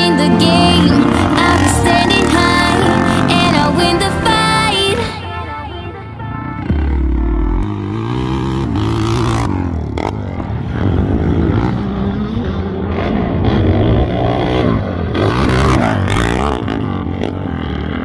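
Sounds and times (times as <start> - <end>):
dirt bike engine revving: 0.0 - 5.3, 6.4 - 18.0.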